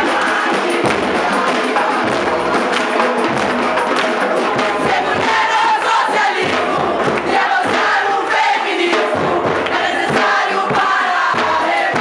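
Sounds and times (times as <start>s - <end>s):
drums playing rhythm: 0.0s - 12.0s
jingling percussion: 0.0s - 12.0s.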